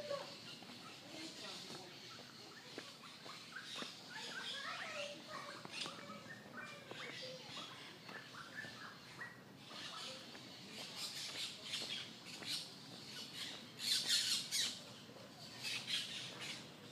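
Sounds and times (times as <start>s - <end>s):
birds squawking harshly: 0.0s - 16.9s.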